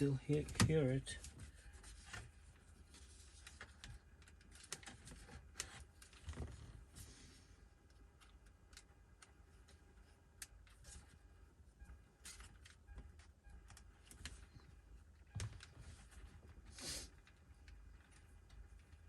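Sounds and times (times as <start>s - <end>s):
rustling handling noises: 0.0s - 19.0s.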